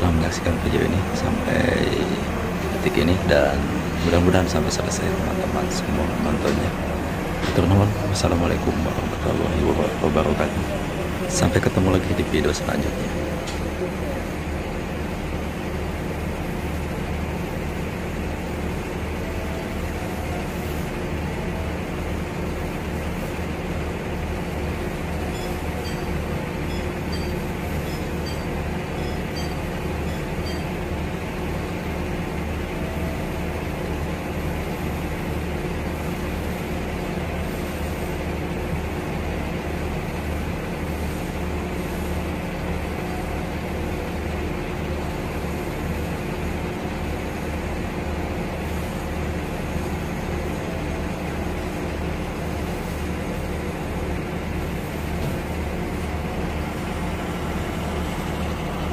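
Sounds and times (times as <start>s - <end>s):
diesel train idling: 0.0s - 58.9s.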